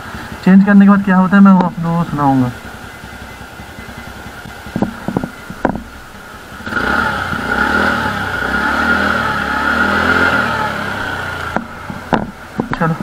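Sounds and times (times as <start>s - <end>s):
scooter engine revving: 1.8s - 12.6s.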